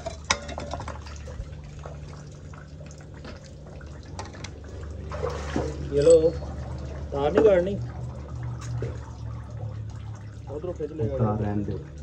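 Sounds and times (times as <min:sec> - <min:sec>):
low machine hum: 0:00.0 - 0:12.0
sewage water sloshing and dripping: 0:00.0 - 0:12.0.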